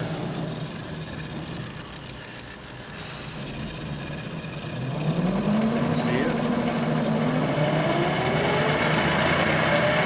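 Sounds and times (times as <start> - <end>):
drill press running: 0.0 - 10.0.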